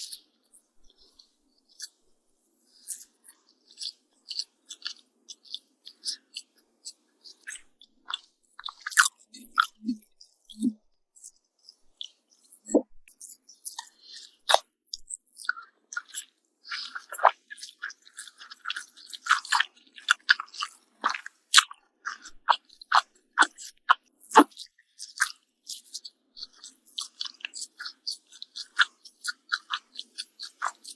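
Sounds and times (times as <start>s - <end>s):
chewing crunchy food: 0.0s - 30.9s.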